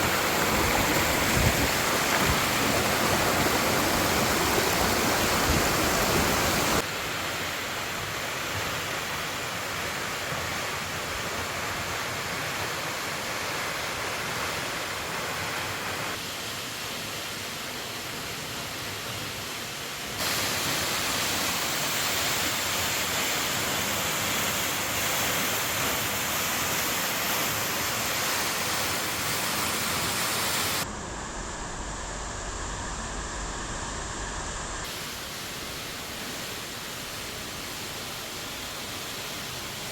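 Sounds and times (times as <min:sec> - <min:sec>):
waterfall rushing water: 0:00.0 - 0:30.9, 0:34.8 - 0:39.9.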